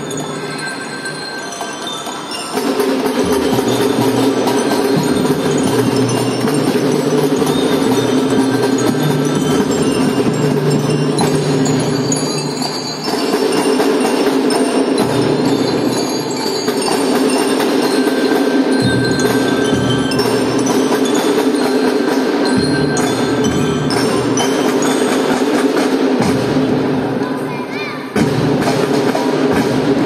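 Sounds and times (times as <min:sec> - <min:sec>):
glockenspiel melody: 0:00.0 - 0:26.2
marching drums: 0:00.0 - 0:30.0.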